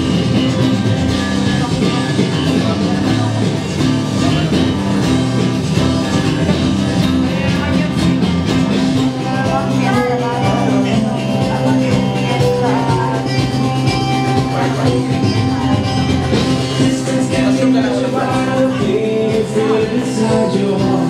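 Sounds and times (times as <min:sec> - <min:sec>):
acoustic guitar strumming: 0:00.0 - 0:21.0
live band playing pop-rock: 0:00.0 - 0:21.0.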